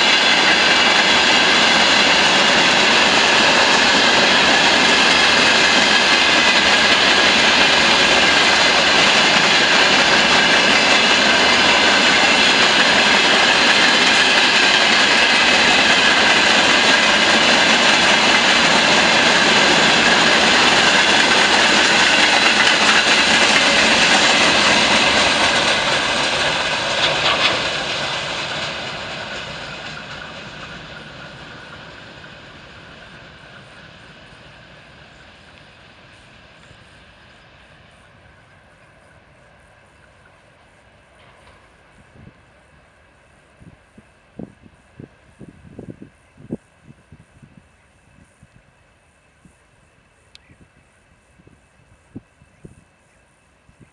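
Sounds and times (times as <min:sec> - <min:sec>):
freight train passing: 0:00.0 - 0:53.9.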